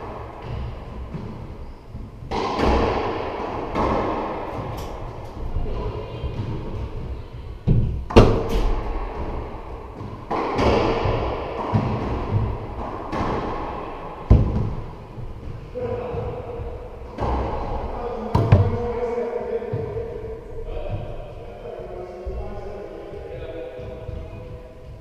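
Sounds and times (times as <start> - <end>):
racquetball hits echoing: 0.0 - 21.3.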